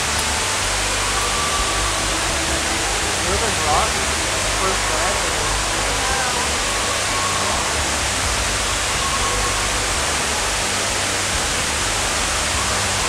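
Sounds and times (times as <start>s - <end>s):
faint distant voices: 0.0s - 13.0s
indoor waterfall rushing: 0.0s - 13.0s.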